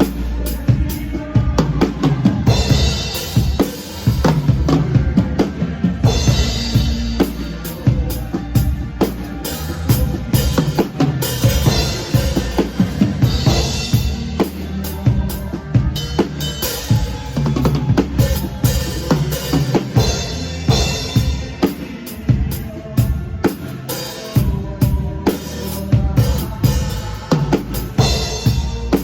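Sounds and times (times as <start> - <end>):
low held bass notes: 0.0 - 23.8
drum kit steady beat: 0.0 - 29.0
live band music: 0.0 - 29.0.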